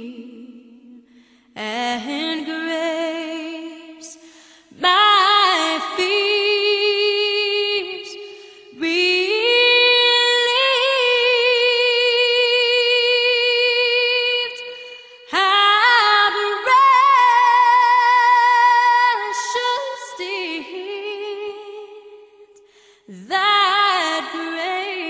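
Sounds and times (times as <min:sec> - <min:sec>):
woman singing with vibrato: 0:00.0 - 0:25.0.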